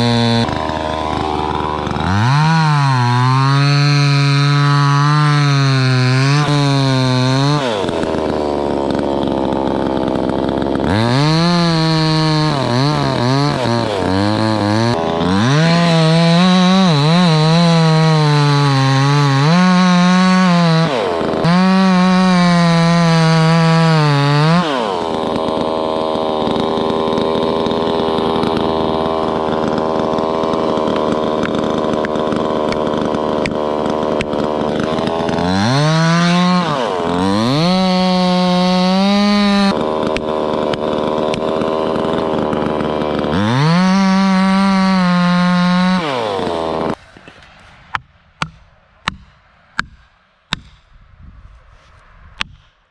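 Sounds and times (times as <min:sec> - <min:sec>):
chainsaw idling: 0:00.0 - 0:47.2
chainsaw cutting wood: 0:00.0 - 0:52.9.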